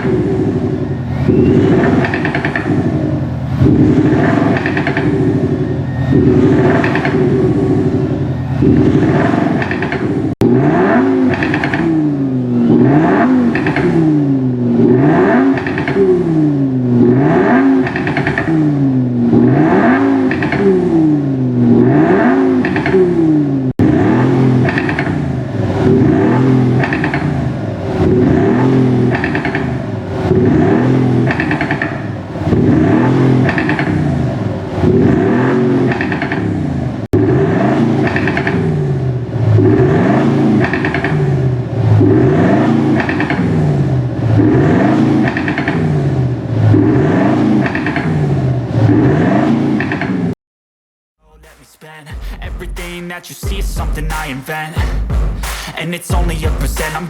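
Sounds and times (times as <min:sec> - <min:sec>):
synthesized engine revving: 0:00.0 - 0:50.4, 0:52.1 - 0:57.0.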